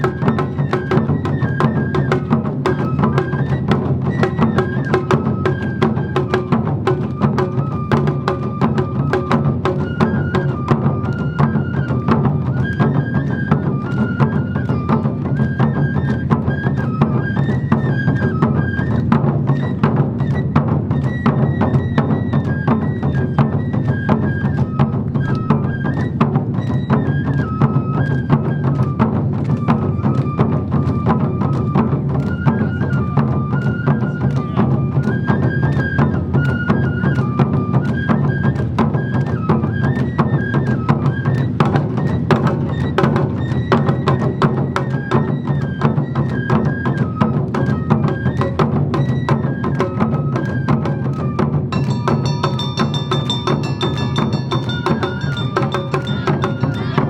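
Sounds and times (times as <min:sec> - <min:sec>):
bamboo flute melody: 0:00.0 - 0:57.0
drums and percussion beat: 0:00.0 - 0:57.0.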